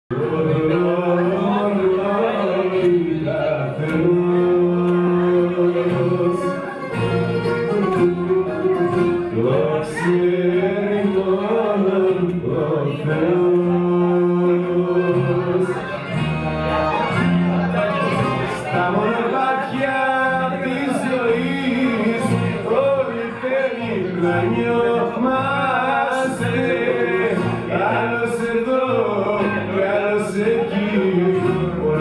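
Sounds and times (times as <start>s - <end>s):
plucked string accompaniment: 0.1s - 32.0s.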